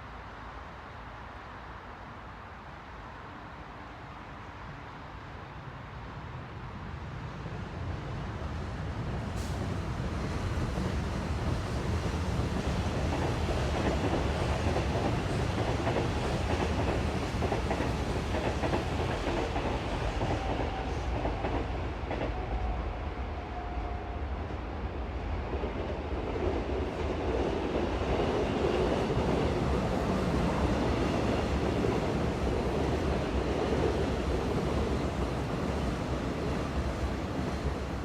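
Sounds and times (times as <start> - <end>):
train running on rails: 0.0 - 38.0.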